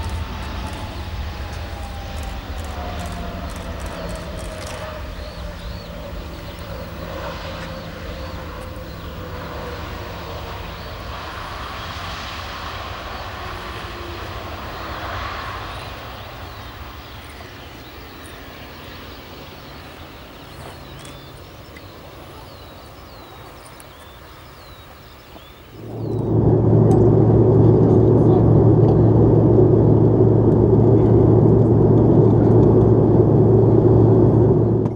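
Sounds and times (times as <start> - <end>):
jet engines running down: 0.0 - 34.9.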